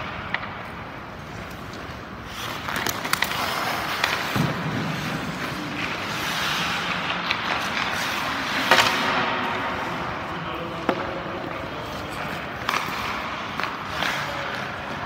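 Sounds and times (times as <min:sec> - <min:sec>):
hockey stick clacking on puck: 0:00.0 - 0:09.9, 0:10.7 - 0:15.0
skate blades scraping on ice: 0:01.0 - 0:15.0.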